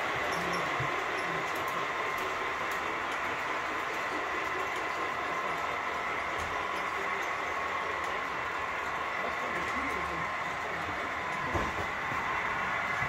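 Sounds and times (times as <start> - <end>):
model train wheels rumbling: 0.0 - 13.0.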